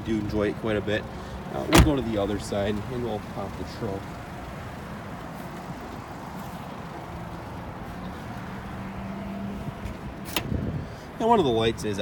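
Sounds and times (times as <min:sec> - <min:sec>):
car engine idling: 0:00.1 - 0:10.2.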